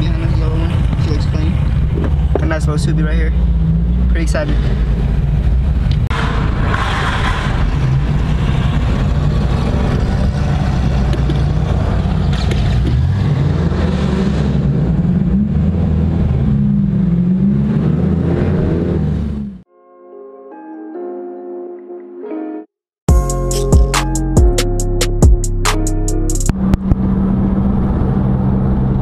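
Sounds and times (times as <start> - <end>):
car engine and road noise: 0.0 - 19.7, 23.1 - 29.0.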